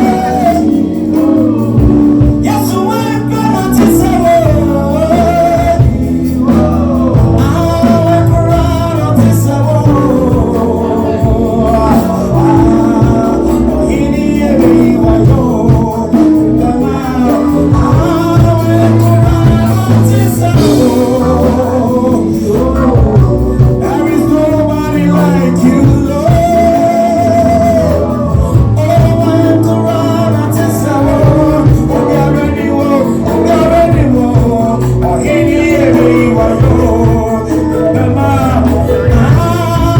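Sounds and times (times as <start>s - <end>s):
band with steady bass line: 0.0s - 39.9s
person singing with vibrato: 0.0s - 39.9s.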